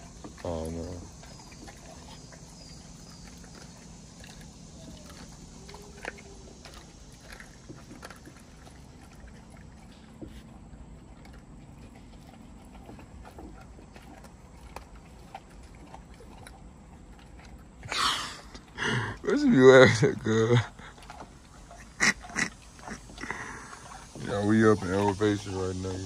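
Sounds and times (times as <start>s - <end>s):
dog chewing bone: 0.0s - 17.9s, 18.5s - 26.0s.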